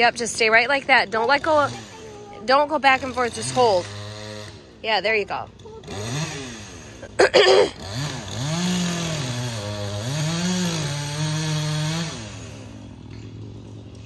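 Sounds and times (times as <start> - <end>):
chainsaw revving and cutting: 0.0 - 14.0.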